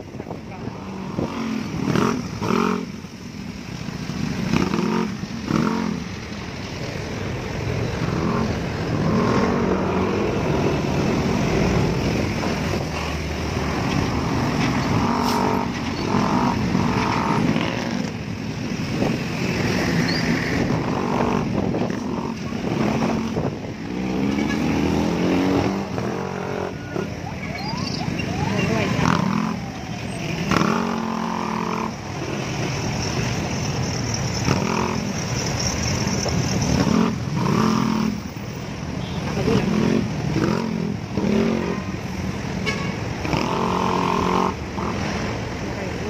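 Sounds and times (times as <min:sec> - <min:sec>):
motorcycle and car engines: 0:00.0 - 0:46.0.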